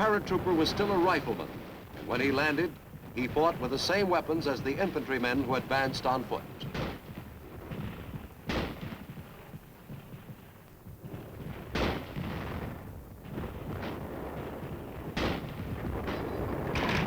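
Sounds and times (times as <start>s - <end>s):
gunshots: 0.0s - 9.1s, 11.7s - 12.8s, 13.6s - 17.0s
low rumble of battle noise: 0.0s - 17.0s.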